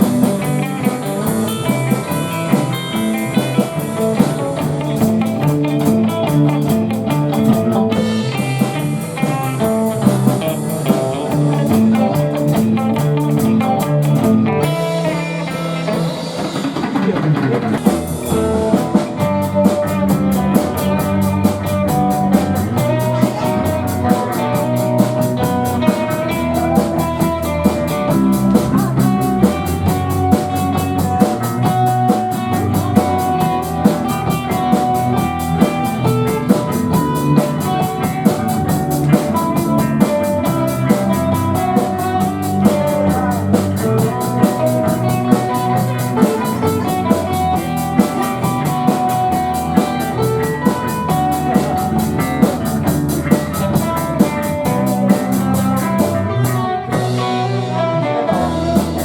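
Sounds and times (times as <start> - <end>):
electric guitar: 0.0 - 59.0
live band music: 0.0 - 59.0.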